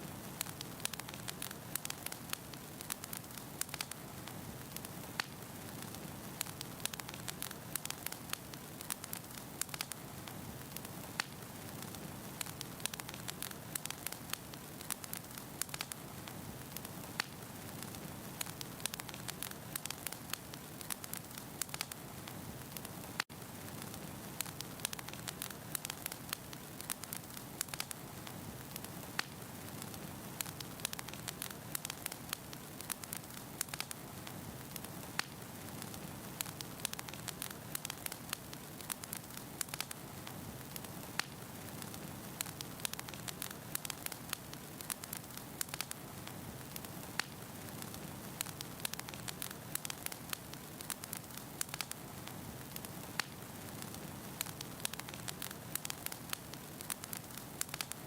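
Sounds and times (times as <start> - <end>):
logs crackling and popping: 0.0 - 58.0
wood fire hissing: 0.0 - 58.0.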